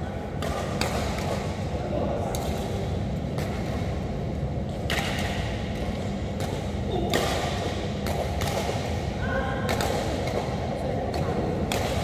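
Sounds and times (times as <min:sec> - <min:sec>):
steady low hum: 0:00.0 - 0:12.0
rackets hitting shuttlecock: 0:00.3 - 0:04.0, 0:04.7 - 0:12.0.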